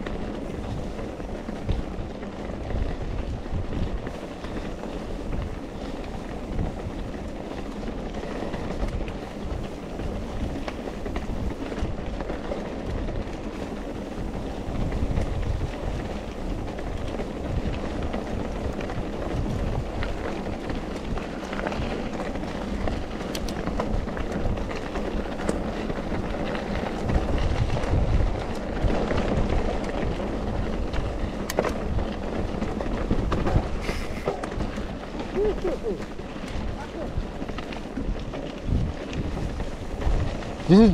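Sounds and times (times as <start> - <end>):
bike rattling: 0.0 - 40.9
bike tyres crunching on trail: 0.0 - 40.9
wind rumble on microphone: 0.0 - 40.9.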